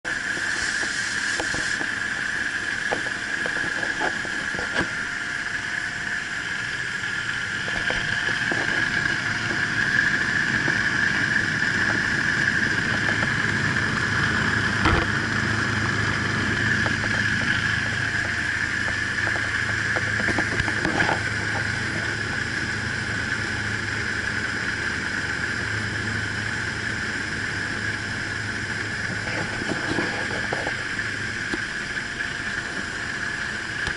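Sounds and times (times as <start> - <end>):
propeller engine droning: 0.0 - 33.9.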